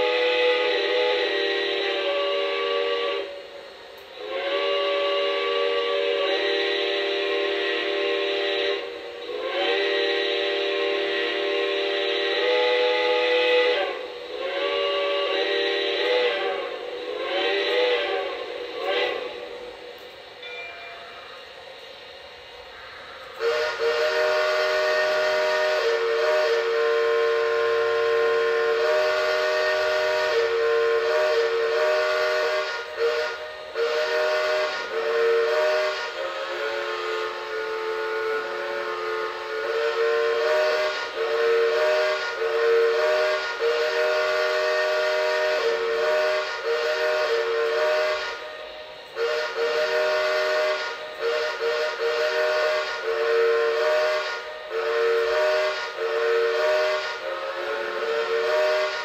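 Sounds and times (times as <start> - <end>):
multi-chime steam whistle: 0.0 - 59.0.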